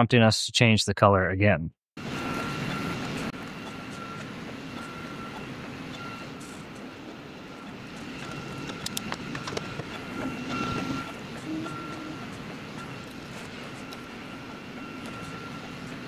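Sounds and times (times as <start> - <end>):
stepper motors whining: 2.0 - 16.0.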